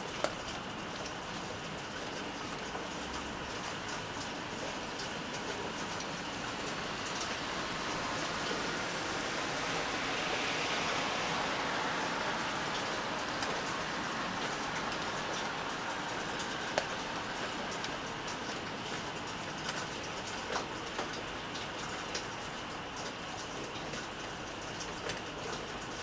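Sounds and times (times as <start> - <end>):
small drip ticks: 0.0 - 9.9, 10.7 - 26.0
steady rain: 0.0 - 26.0.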